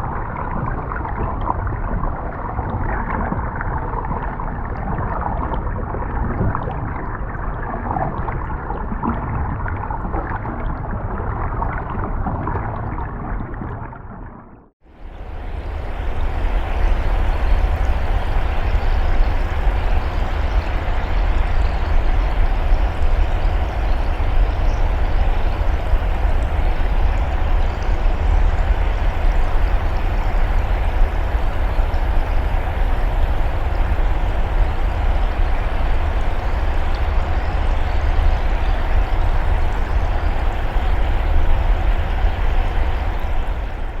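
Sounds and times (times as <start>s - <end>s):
gurgling wash of water: 0.0s - 44.0s
underwater deep rumble: 0.0s - 44.0s.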